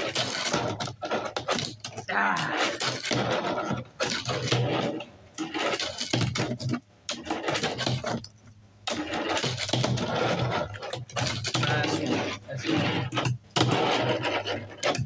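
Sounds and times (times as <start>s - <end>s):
fingerboard wheels rolling and scraping: 0.0s - 15.0s.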